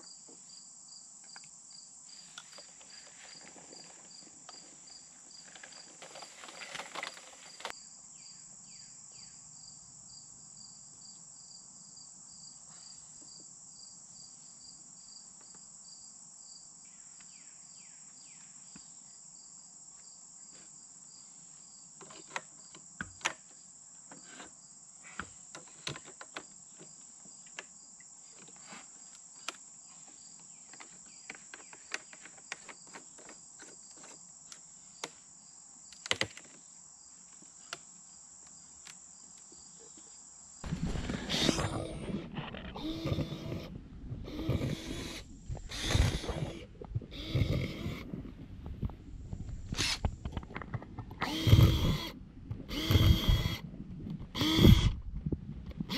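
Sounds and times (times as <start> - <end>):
insects trilling: 0.0 - 48.3, 51.2 - 53.6, 54.3 - 55.0.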